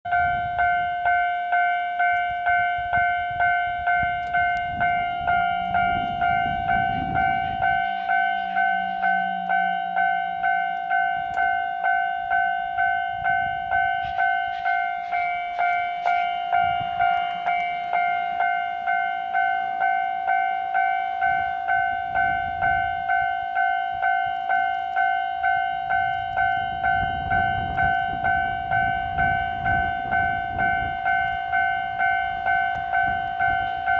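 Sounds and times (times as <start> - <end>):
level-crossing warning bell: 0.0 - 33.9.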